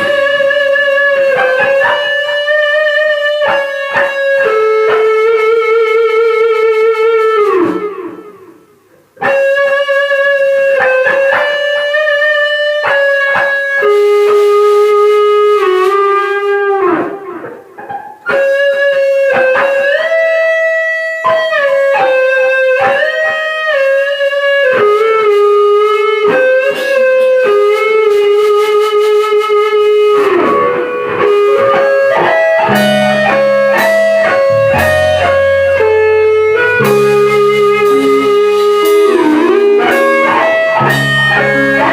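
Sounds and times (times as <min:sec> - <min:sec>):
electric guitar melody: 0:00.0 - 0:41.9.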